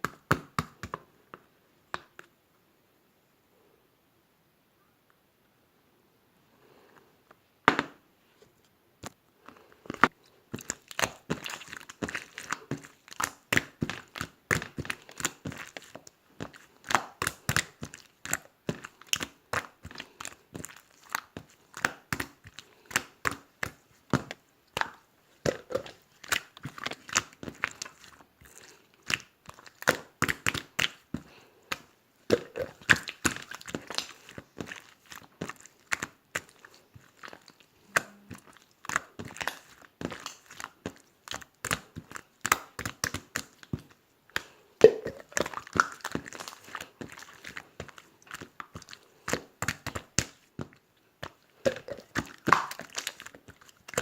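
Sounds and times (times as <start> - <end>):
crinkling and crackling: 8.2 - 54.0.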